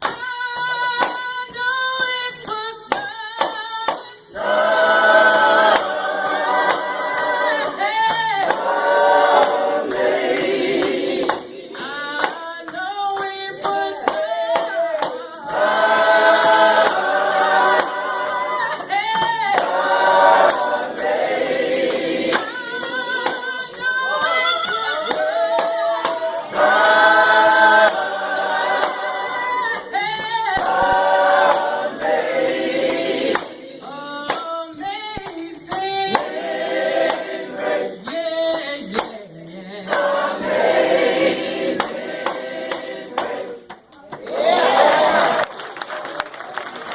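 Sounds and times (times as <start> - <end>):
tambourine: 0.0 - 43.7
gospel group singing: 0.0 - 45.5.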